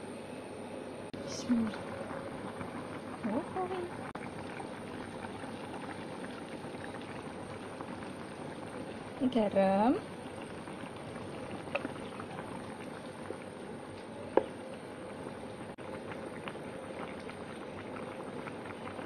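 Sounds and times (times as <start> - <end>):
broth bubbling in a pan: 1.2 - 19.0.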